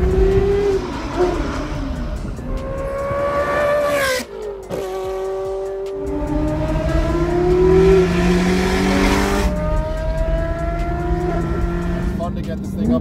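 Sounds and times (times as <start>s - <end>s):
sports car engine accelerating: 0.0s - 13.0s.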